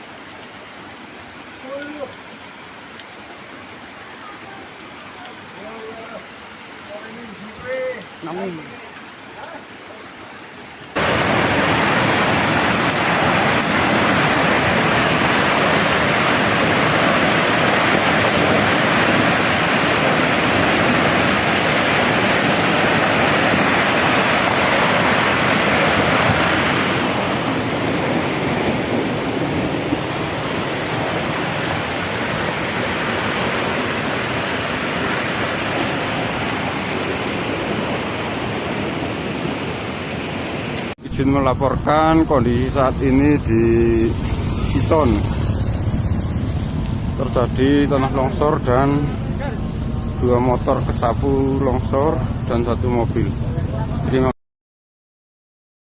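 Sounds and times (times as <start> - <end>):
rushing water in heavy rain: 0.0 - 54.4.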